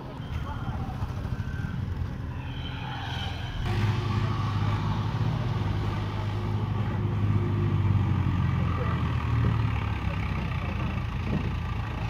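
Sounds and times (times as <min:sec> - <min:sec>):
engine idling: 0:00.0 - 0:02.6, 0:03.6 - 0:12.0.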